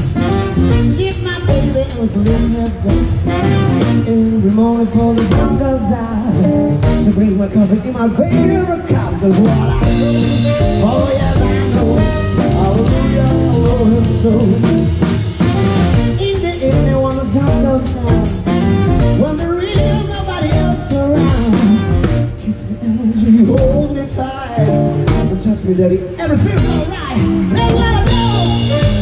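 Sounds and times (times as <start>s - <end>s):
drum kit played with sticks: 0.0s - 29.0s
live band music: 0.0s - 29.0s
person singing: 0.0s - 29.0s.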